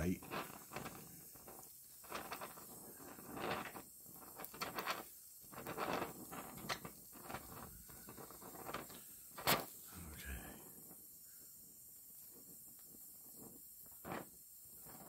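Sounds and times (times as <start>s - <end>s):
welding torch crackling and spitting: 0.0s - 15.0s.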